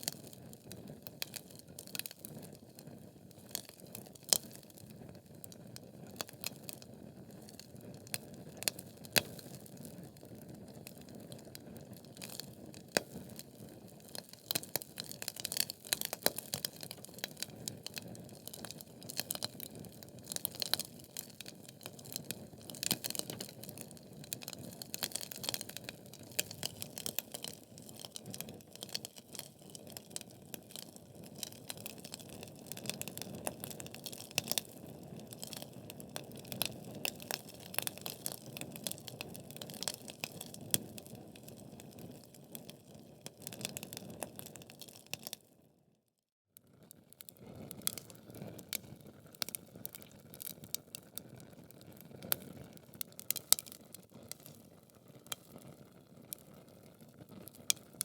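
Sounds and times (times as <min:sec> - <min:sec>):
fire burning in fireplace: 0:00.0 - 0:45.4, 0:47.0 - 0:58.0
fire crackling and popping: 0:00.0 - 0:45.4, 0:46.9 - 0:58.0.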